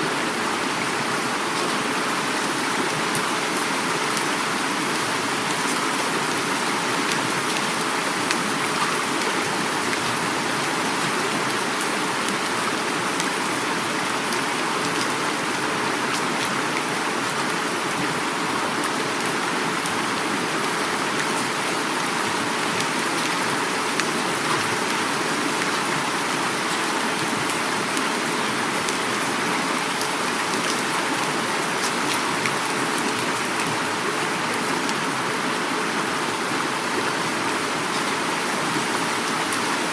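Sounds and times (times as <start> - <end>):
heavy rain falling: 0.0 - 39.9
river water flowing: 0.0 - 39.9.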